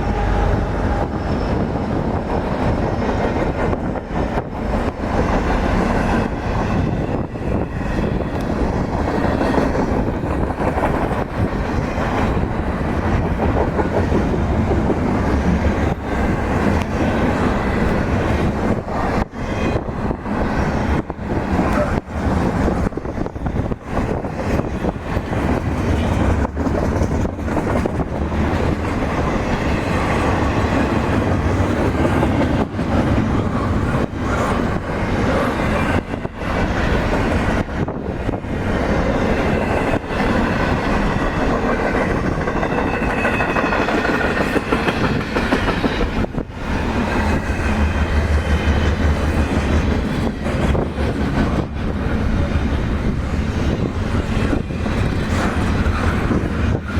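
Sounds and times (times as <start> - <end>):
train rumbling past: 0.0 - 56.9.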